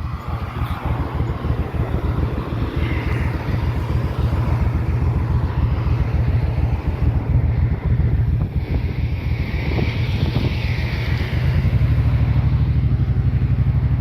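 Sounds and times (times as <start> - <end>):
motorcycle engine rumble: 0.0 - 14.0
wind noise on microphone: 0.0 - 14.0.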